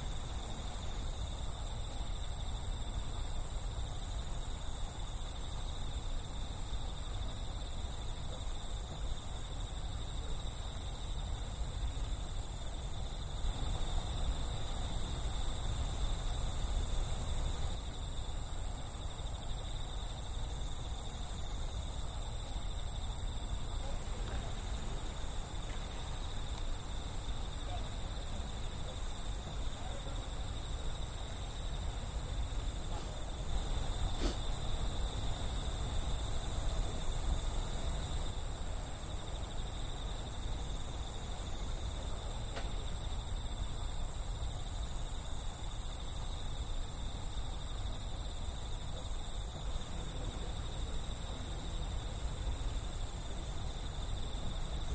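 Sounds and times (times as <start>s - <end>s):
night insects chirping: 0.0s - 54.9s.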